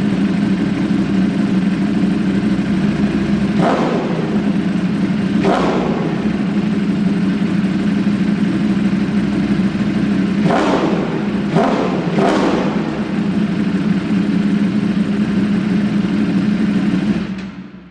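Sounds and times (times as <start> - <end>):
engine throttle blips: 0.0 - 17.9
motorcycle engine idling: 0.0 - 17.9.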